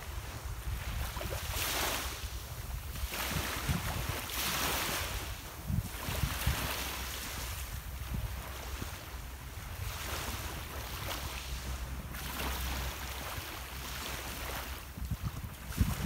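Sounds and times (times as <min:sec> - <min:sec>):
small waves washing on shore: 0:00.0 - 0:16.0
wind rumble on microphone: 0:00.0 - 0:16.0.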